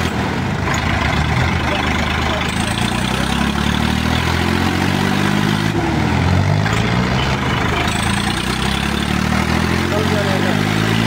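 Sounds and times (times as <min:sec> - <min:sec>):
diesel tractor engines idling: 0:00.0 - 0:11.0.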